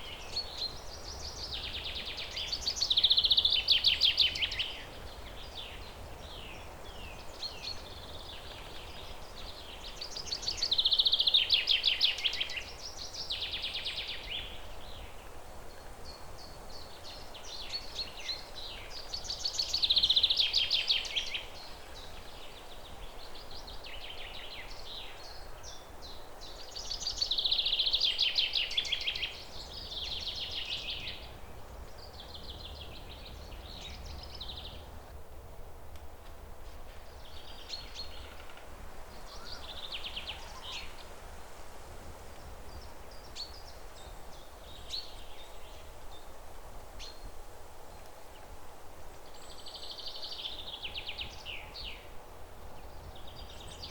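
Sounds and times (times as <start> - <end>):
background hiss: 0.0 - 53.9.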